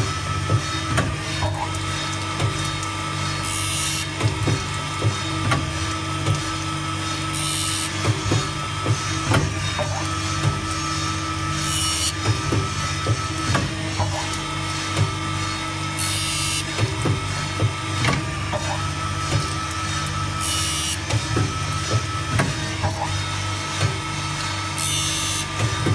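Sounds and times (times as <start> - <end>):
grinding machine motor hum: 0.0 - 25.9.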